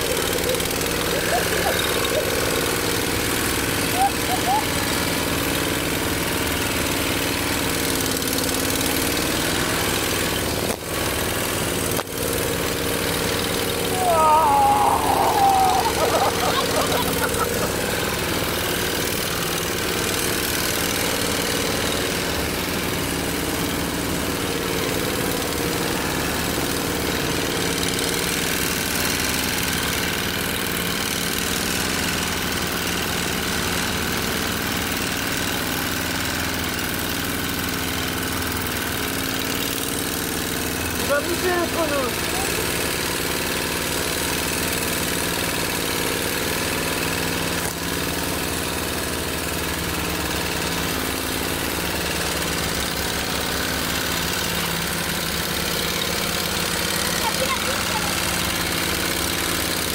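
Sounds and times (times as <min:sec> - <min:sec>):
walk-behind tractor engine running: 0:00.0 - 0:59.9.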